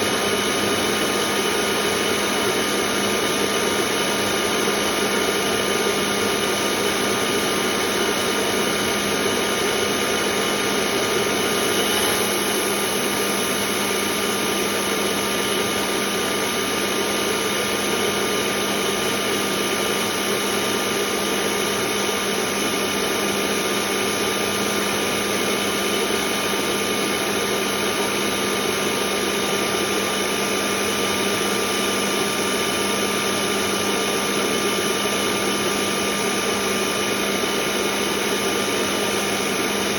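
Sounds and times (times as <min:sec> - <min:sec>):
grinder motor running: 0:00.0 - 0:39.9.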